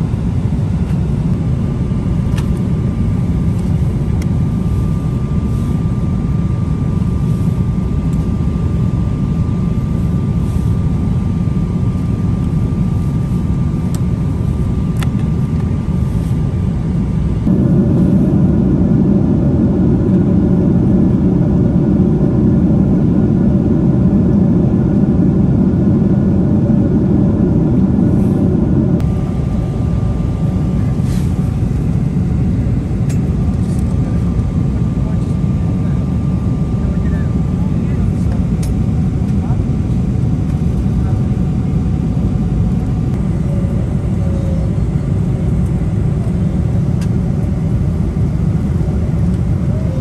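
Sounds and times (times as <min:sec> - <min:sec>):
aircraft cabin rumble: 0:00.0 - 0:50.0
faint steady whine: 0:00.0 - 0:50.0
layered engine hum: 0:00.0 - 0:50.0.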